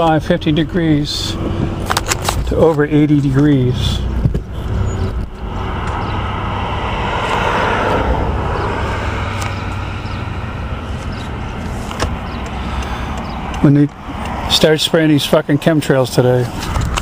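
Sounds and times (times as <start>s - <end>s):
low engine hum: 0.0s - 17.0s
vehicle passing: 0.0s - 17.0s.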